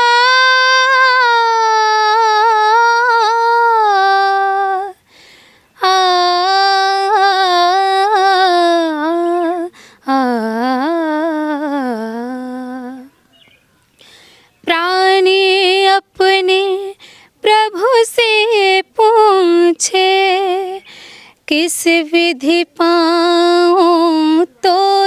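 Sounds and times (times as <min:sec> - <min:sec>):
woman singing wordless vocal: 0:00.0 - 0:13.2, 0:14.0 - 0:25.0.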